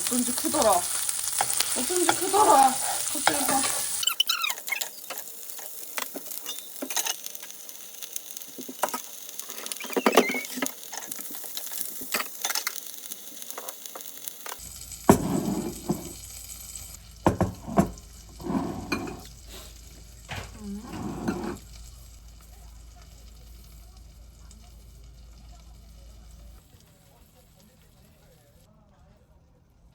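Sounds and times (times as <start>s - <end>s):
roe sizzling in a pan: 0.0s - 28.7s.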